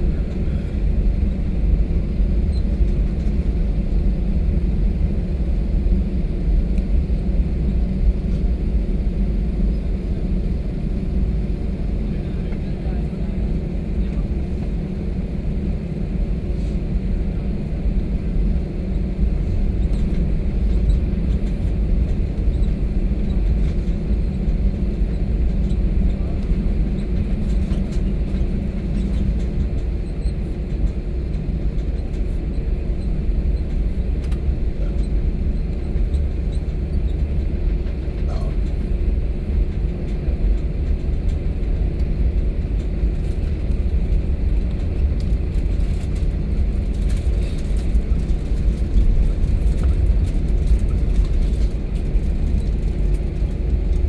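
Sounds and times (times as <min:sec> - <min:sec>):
airliner cabin low rumble: 0:00.0 - 0:54.0.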